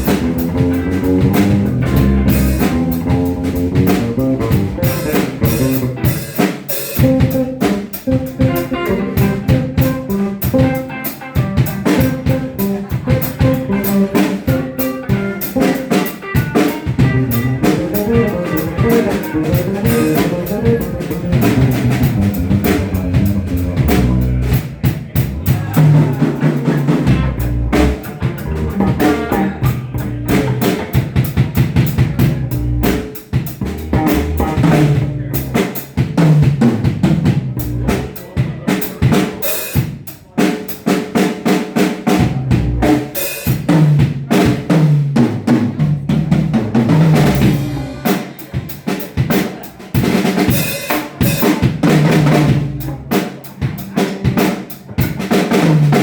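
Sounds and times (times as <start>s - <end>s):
band playing funk groove: 0.0s - 56.0s
drum kit kick and snare: 0.0s - 56.0s.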